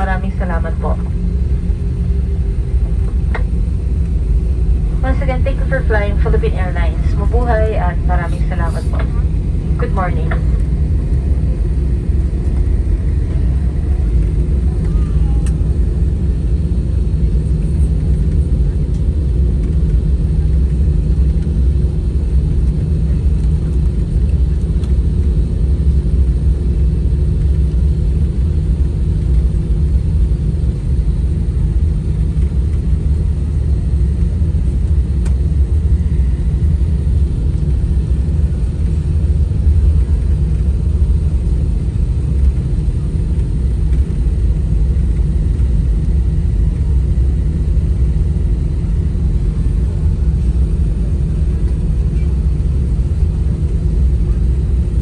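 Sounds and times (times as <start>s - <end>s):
airliner cabin hum: 0.0s - 55.0s.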